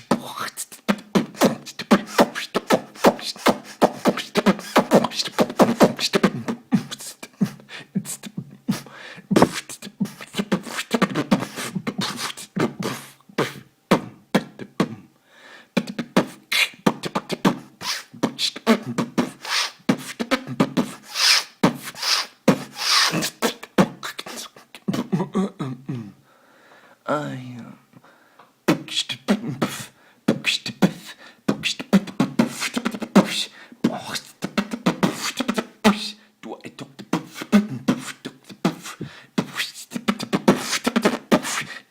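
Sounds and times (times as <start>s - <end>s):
beatboxing clicks and pops: 0.0s - 15.0s, 15.8s - 25.1s, 28.4s - 36.1s, 36.8s - 41.8s
beatboxing hissing sounds: 0.0s - 15.0s, 15.8s - 25.3s, 28.7s - 41.9s.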